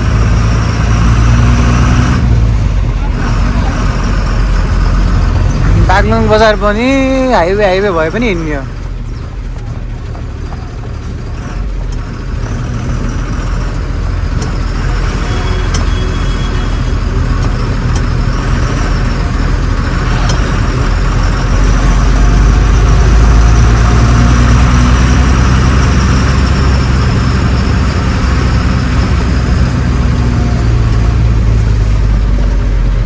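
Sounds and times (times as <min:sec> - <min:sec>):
truck engine droning: 0:00.0 - 0:33.0.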